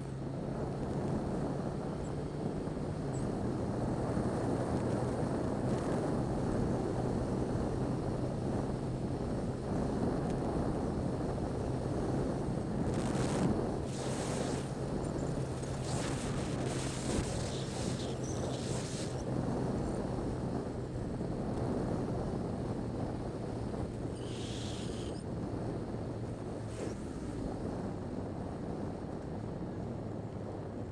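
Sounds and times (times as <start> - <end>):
motorcycle engine hum: 0.0 - 30.9
road noise on wet road: 0.0 - 30.9
wind rushing over microphone: 0.0 - 30.9.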